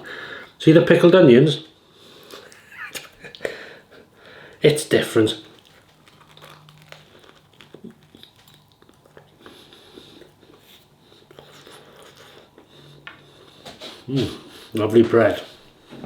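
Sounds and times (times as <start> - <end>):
faint chewing: 2.1 - 15.8.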